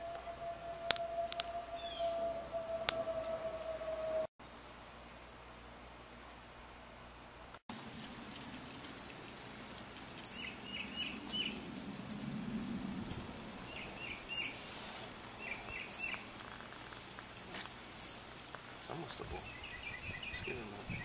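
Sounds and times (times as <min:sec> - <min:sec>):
birds chirping: 0:00.0 - 0:04.3, 0:07.7 - 0:21.0.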